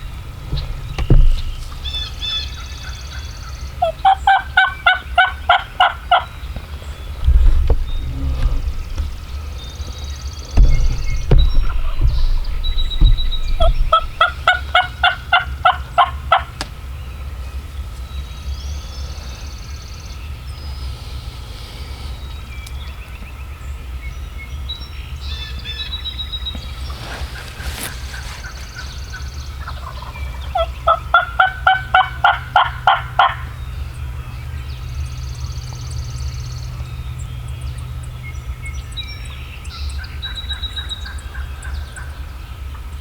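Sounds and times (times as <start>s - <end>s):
low rumble of wind: 0.0s - 43.0s
songbirds chirping faintly: 0.0s - 43.0s.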